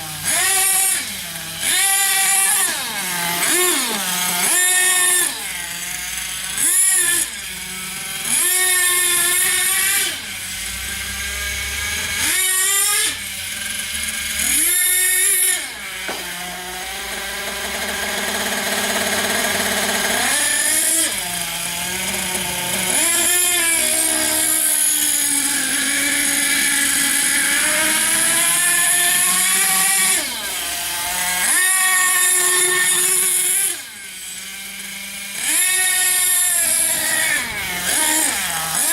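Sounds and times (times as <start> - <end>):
small nitro engine revving: 0.0 - 38.9.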